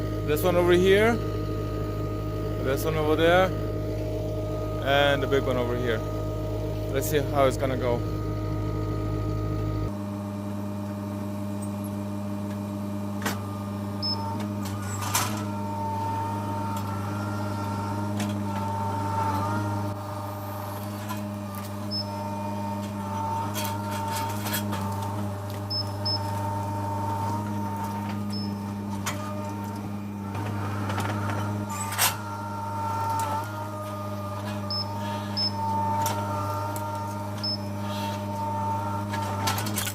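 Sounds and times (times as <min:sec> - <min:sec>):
faint high whine: 0:00.0 - 0:39.9
skid steer engine running: 0:00.0 - 0:39.9.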